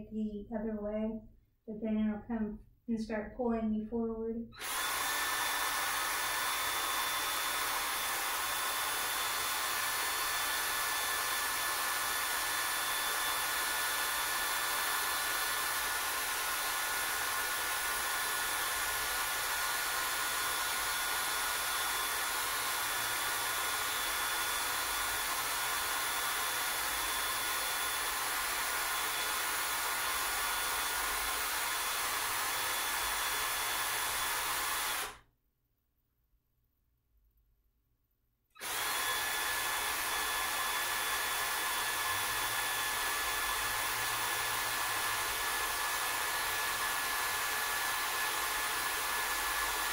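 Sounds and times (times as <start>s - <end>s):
cordless drill running: 4.6s - 35.2s, 38.6s - 49.9s.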